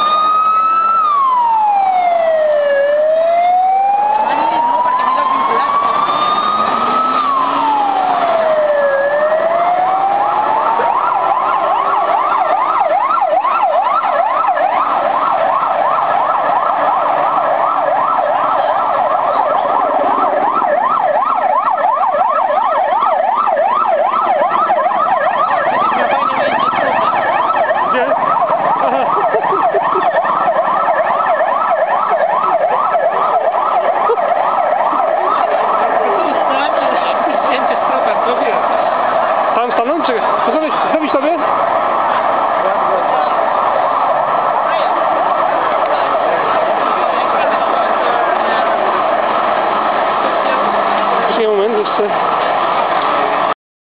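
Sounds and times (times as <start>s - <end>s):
police sirens wailing and yelping: 0.0s - 53.6s.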